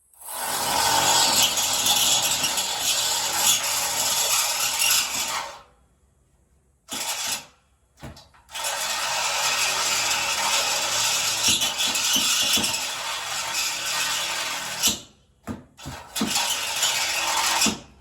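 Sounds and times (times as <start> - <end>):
drill cutting through steel: 0.1 - 5.6, 6.9 - 7.5, 8.5 - 15.1, 16.0 - 17.8.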